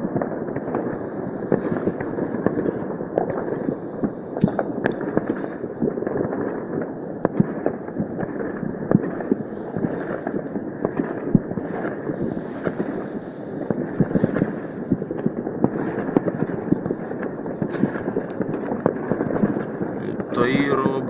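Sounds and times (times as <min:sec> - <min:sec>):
fireworks and firecrackers crackling: 0:00.0 - 0:21.0.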